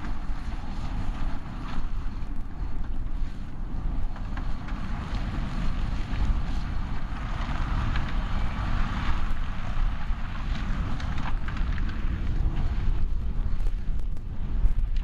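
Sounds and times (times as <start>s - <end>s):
tractor running under load: 0.0s - 15.0s
wind buffeting microphone: 0.0s - 15.0s.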